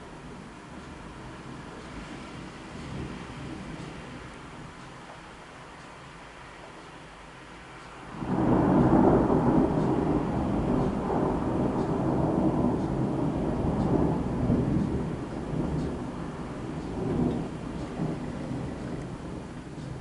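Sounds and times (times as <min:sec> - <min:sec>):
thunder crack and rumble: 0:00.0 - 0:04.9, 0:08.1 - 0:20.0.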